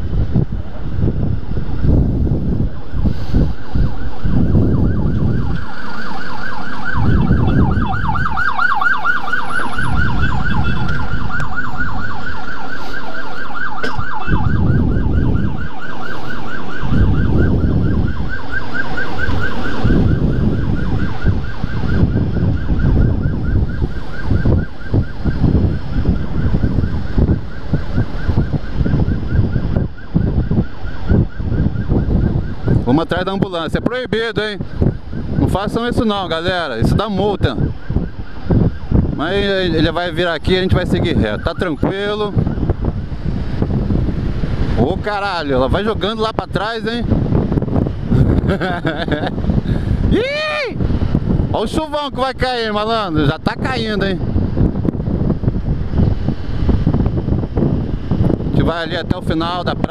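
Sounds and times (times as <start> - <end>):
wind buffeting microphone: 0.0 - 59.9
ambulance siren yelping: 1.2 - 59.9.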